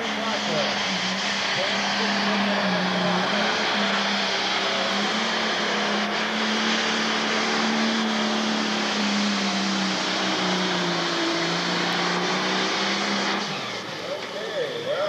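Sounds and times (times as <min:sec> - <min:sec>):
diesel engine droning under load: 0:00.0 - 0:15.0.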